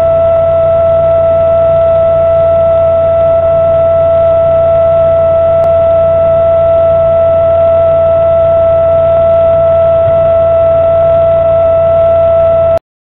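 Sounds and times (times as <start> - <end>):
low hum: 0.0 - 12.8
steady high-pitched tone: 0.0 - 12.8.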